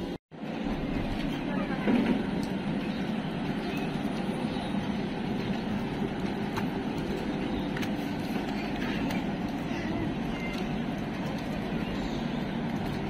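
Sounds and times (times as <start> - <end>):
steady background rumble: 0.0 - 13.0.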